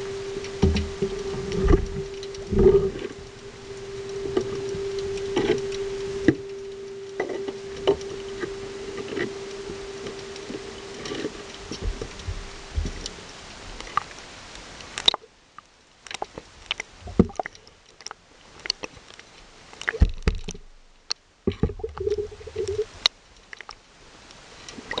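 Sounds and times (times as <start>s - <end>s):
underwater hum and hiss: 0.0s - 25.0s.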